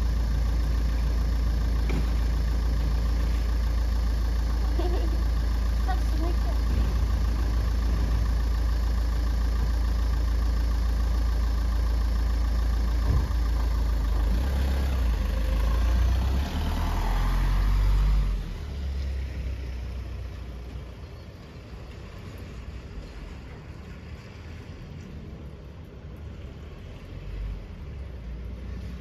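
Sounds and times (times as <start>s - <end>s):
van engine idling and pulling away: 0.0s - 29.0s.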